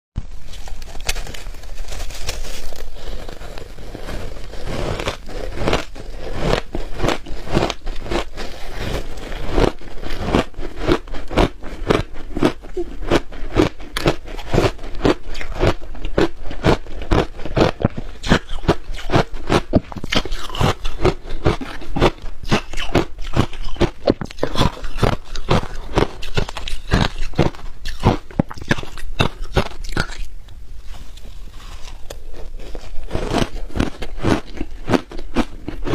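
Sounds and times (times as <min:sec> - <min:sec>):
crunching shaved ice: 0:00.3 - 0:30.3, 0:31.6 - 0:35.9.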